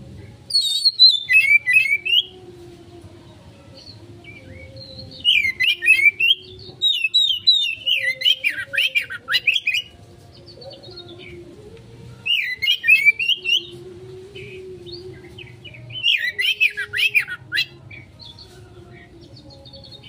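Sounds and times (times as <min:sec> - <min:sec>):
magpie-robin singing: 0:00.2 - 0:02.4, 0:03.3 - 0:20.0.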